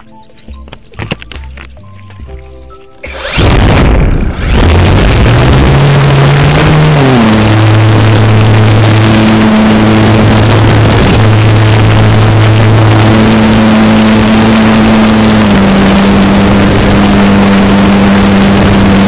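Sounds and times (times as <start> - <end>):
model aeroplane motor and propeller: 3.0 - 19.0.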